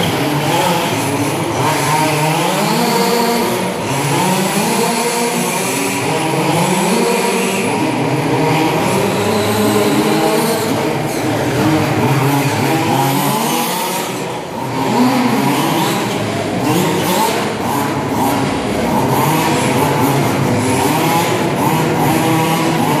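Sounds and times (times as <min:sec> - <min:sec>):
rc buggy motors revving: 0:00.0 - 0:23.0.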